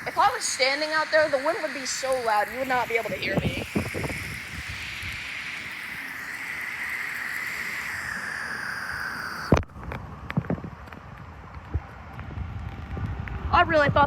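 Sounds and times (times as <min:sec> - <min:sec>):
rain rushing: 0:00.0 - 0:13.4
wind: 0:00.0 - 0:14.0.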